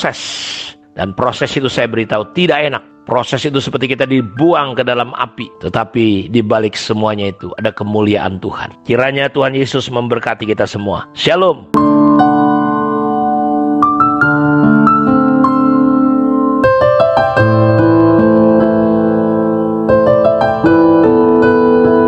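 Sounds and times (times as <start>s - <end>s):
sustained keyboard chords: 1.0s - 22.0s.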